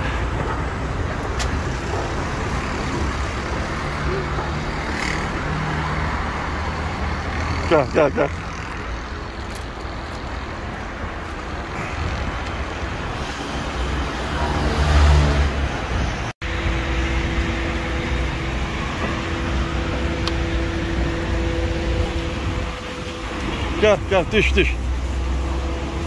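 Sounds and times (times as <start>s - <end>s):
road traffic rumble: 0.0s - 26.0s
vehicle passing: 0.6s - 26.0s.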